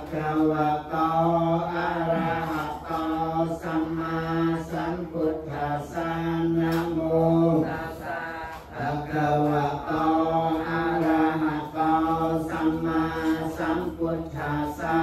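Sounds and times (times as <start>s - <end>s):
low male voices chanting: 0.0s - 15.0s.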